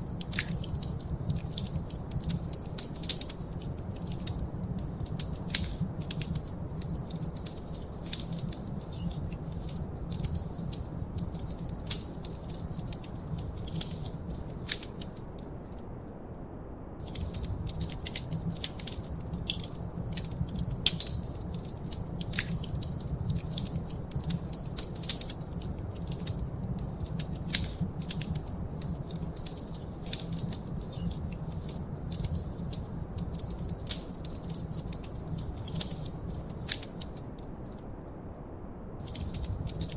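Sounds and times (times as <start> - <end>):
low fire rumble: 0.0 - 15.7, 16.6 - 39.9
wood fire crackling: 0.0 - 15.9, 17.0 - 38.0, 39.0 - 39.9.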